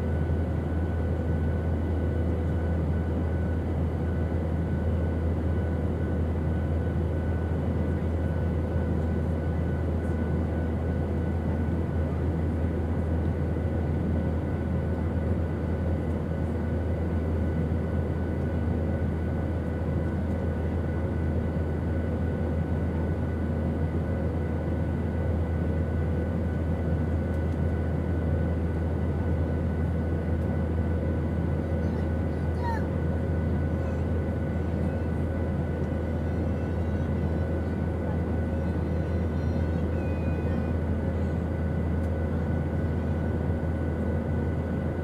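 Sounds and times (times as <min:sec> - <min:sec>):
airplane engine drone: 0:00.0 - 0:45.0.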